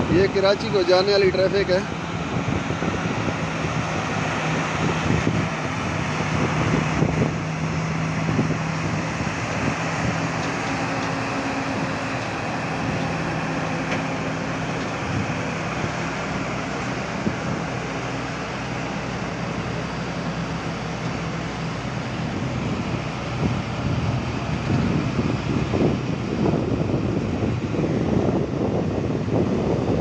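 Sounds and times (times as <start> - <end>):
lorry diesel engines running: 0.0 - 30.0.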